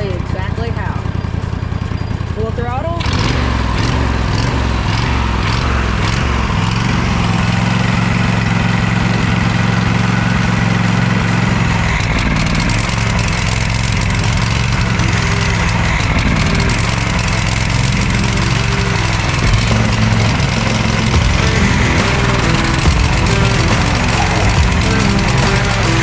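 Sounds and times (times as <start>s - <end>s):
mower engine at full throttle: 0.0s - 26.0s.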